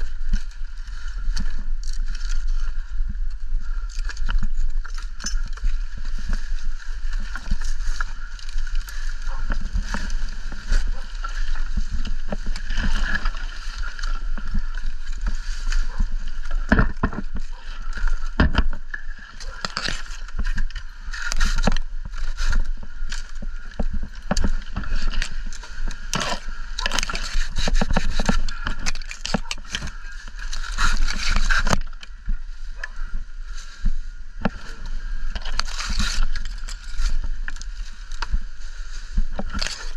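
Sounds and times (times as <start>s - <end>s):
dry palm husk crackling and scraping: 0.0s - 39.9s
wind buffeting microphone: 0.0s - 39.9s.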